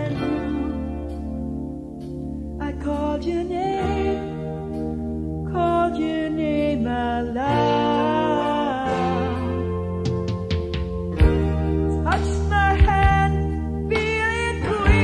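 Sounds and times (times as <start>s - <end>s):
rock band song: 0.0s - 15.0s.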